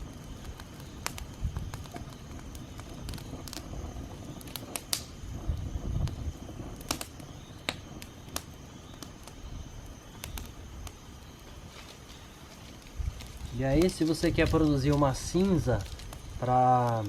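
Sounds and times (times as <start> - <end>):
campfire twigs crackling: 0.0 - 17.0.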